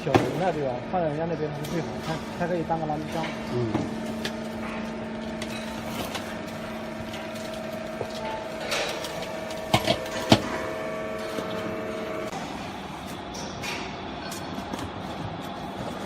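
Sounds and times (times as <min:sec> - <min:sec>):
garbage baler humming: 0:00.0 - 0:16.0.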